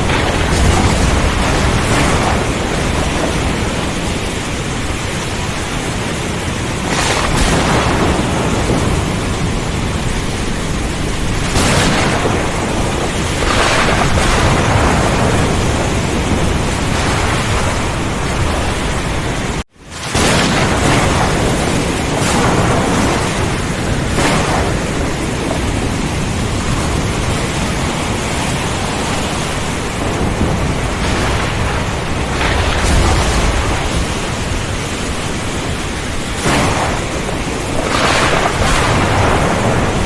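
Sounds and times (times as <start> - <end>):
heavy rain: 0.0 - 40.0
strong wind: 0.0 - 40.0
thunder rumbling: 0.0 - 40.0.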